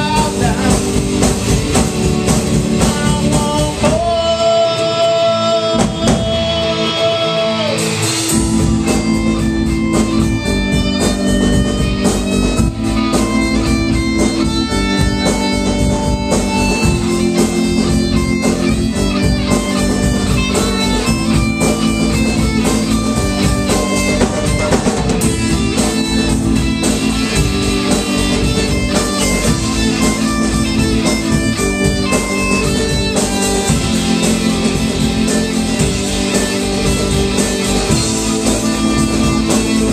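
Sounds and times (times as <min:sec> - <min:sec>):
drum kit: 0:00.0 - 0:39.9
electric guitar and bass chords: 0:00.0 - 0:39.9
lead guitar notes: 0:00.0 - 0:39.9.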